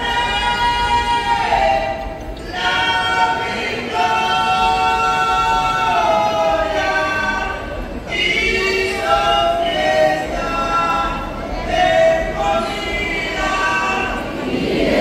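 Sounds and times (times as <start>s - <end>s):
crowd singing unaccompanied: 0.0s - 15.0s.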